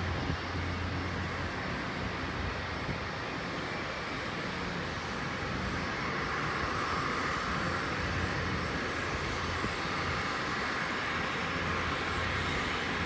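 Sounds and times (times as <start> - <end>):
distant aircraft engines: 0.0 - 13.0.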